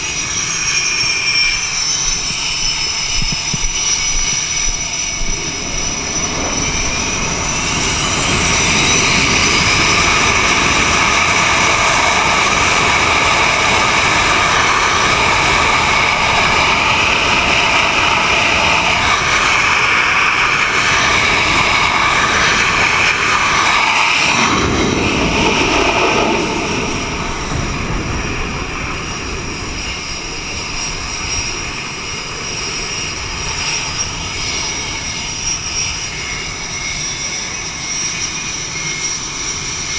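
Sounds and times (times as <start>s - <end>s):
jet engines whining at full power: 0.0s - 39.9s.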